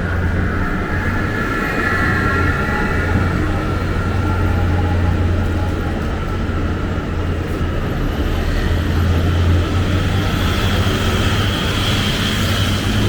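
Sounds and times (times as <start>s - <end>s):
road noise: 0.0s - 13.0s
vehicle engines rumbling: 0.0s - 13.0s.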